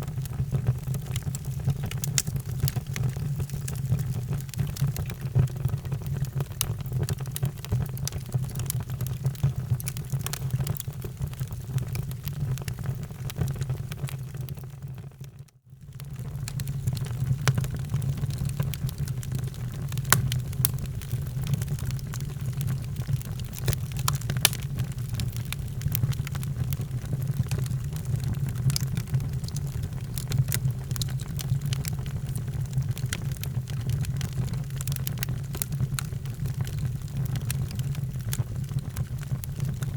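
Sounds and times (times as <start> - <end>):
wood fire crackling and popping: 0.0 - 14.6, 16.0 - 39.9
low rumble of flame: 0.0 - 15.0, 15.8 - 39.9.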